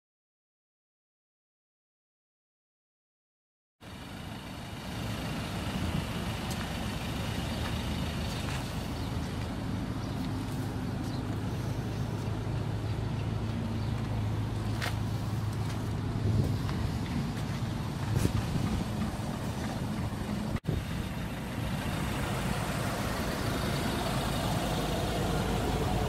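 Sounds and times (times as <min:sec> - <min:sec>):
diesel engine idling: 0:03.8 - 0:26.0.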